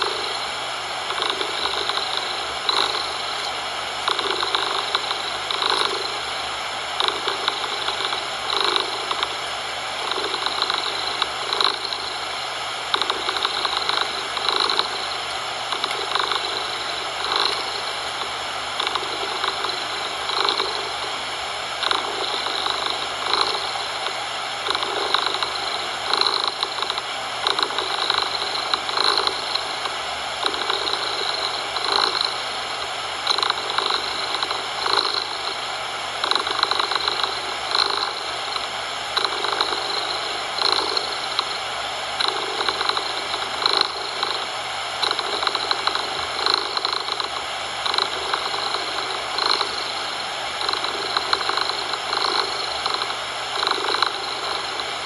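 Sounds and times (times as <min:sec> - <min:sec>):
cat purring: 0:00.0 - 0:06.4, 0:07.0 - 0:41.6, 0:42.2 - 0:55.0
steady hiss of coloured noise: 0:00.0 - 0:55.0.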